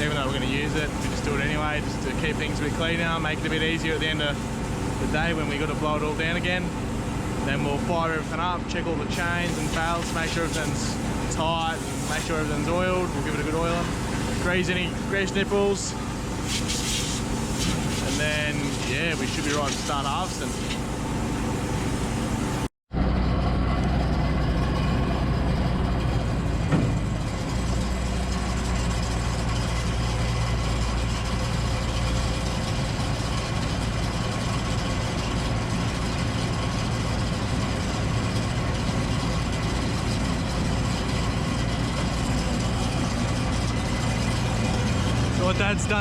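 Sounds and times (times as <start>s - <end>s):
combine harvester engine running: 0.0s - 46.0s.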